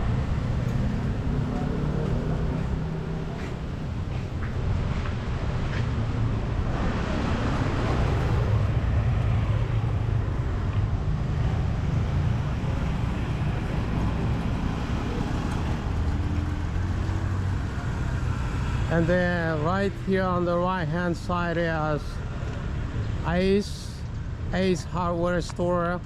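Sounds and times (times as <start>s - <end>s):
passing vehicle engines humming: 0.0s - 26.0s.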